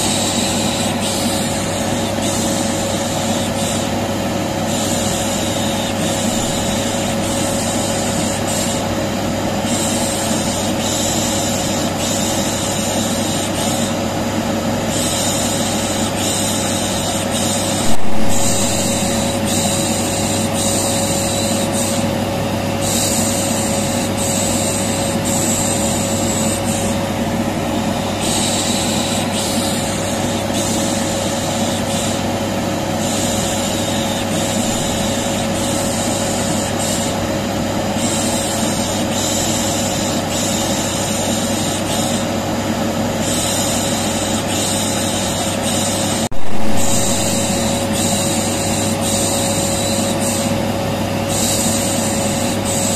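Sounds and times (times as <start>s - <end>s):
vacuum cleaner running: 0.0s - 43.4s, 44.8s - 52.9s.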